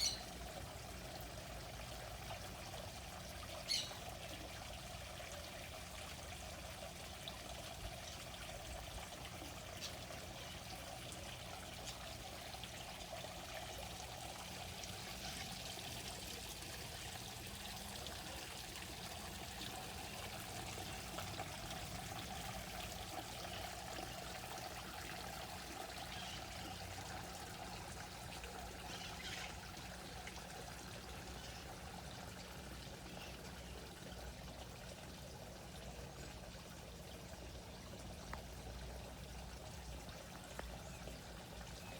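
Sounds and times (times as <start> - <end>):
water pouring into a pond: 0.0 - 41.9.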